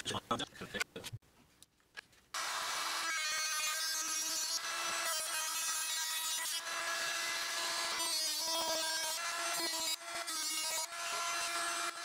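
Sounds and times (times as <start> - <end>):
rotary tool cutting sheet metal: 2.4 - 12.0.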